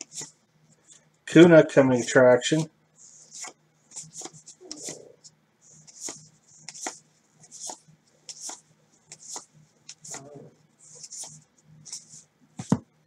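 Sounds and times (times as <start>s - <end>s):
cards sliding papery: 0.0s - 0.4s, 2.0s - 5.1s, 5.7s - 12.8s.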